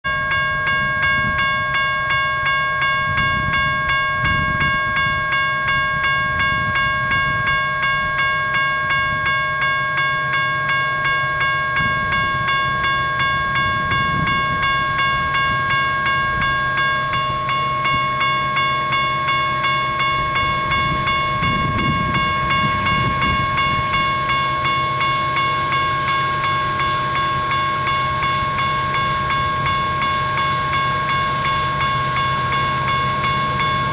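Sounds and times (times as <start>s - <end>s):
diesel locomotive rumble: 0.0s - 33.9s
level-crossing bell ringing: 0.0s - 33.9s.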